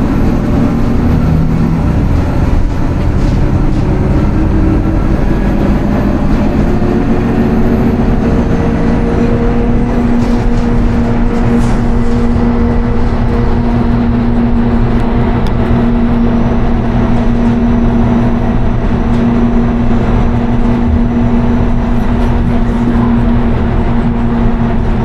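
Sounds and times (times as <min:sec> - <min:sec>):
bus engine droning: 0:00.0 - 0:25.0
road and tyre rumble: 0:00.0 - 0:25.0.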